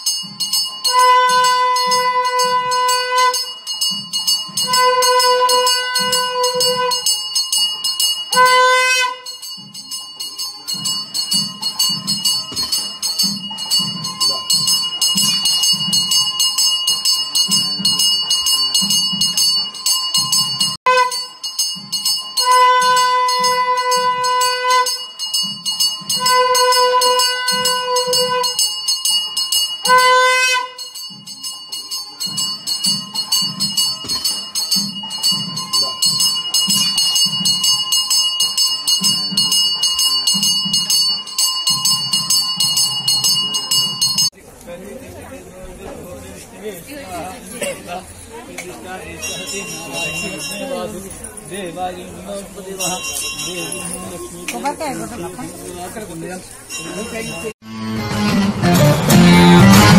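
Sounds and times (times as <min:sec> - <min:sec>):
temple bells ringing: 0:00.0 - 0:44.4, 0:46.1 - 0:59.9.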